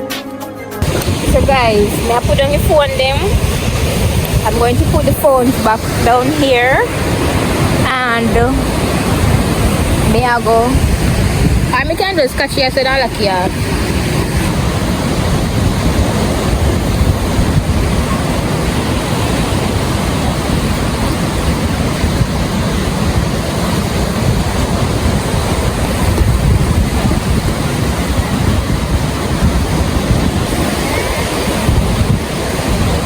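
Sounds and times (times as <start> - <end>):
ocean surf on beach: 0.8 - 33.0
wind buffeting microphone: 0.8 - 33.0.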